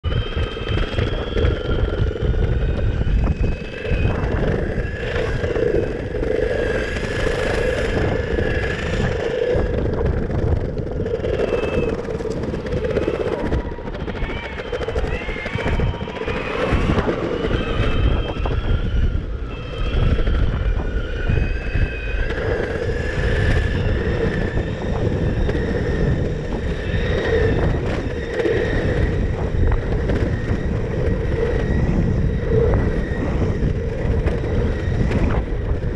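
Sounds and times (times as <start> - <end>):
wheels rumbling on pavement: 0.0 - 35.9
wind buffeting microphone: 0.0 - 35.9
electric motor whine: 0.1 - 35.9.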